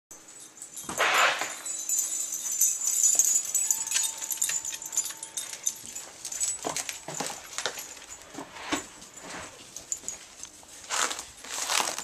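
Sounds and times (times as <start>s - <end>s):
dog collar tags jingling: 0.1s - 12.0s.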